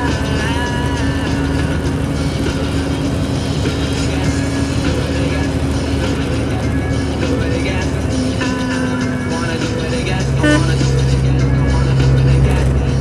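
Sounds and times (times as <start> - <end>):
truck engine running: 0.0 - 13.0
wet tyres on road: 0.0 - 13.0.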